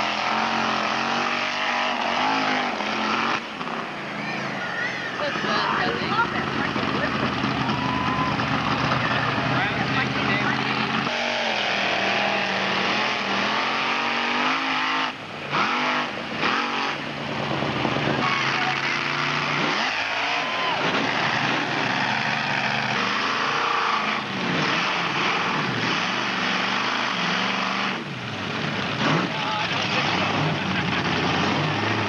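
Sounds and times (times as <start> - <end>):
vehicle engine revving hard: 0.0 - 3.9, 5.2 - 32.0.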